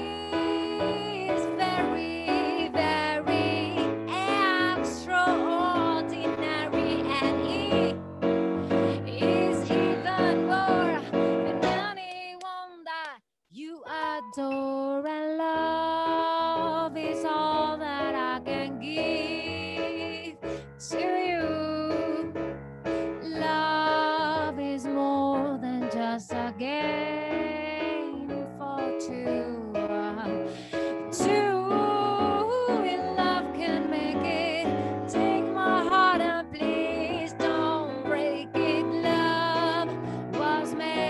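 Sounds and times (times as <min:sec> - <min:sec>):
woman singing: 0:00.0 - 0:08.0, 0:08.6 - 0:22.4, 0:23.2 - 0:41.0
piano accompaniment: 0:00.0 - 0:12.1, 0:13.9 - 0:41.0.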